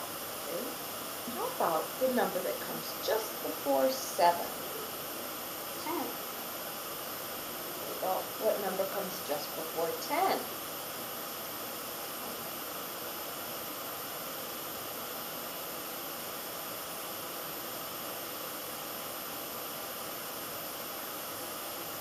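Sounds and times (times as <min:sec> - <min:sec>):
recording hiss: 0:00.0 - 0:22.0.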